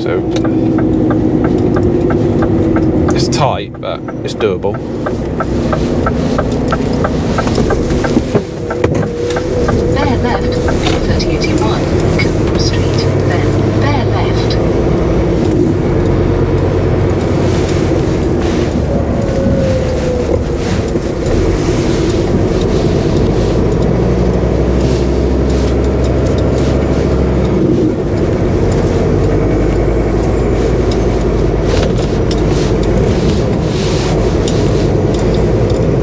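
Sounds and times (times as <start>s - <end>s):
diesel engine low drone: 0.0s - 36.0s.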